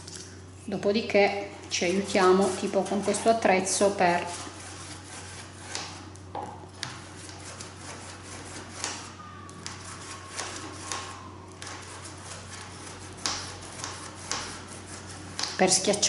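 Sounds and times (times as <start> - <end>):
tool scraping across paper: 1.8 - 6.0, 6.8 - 16.0.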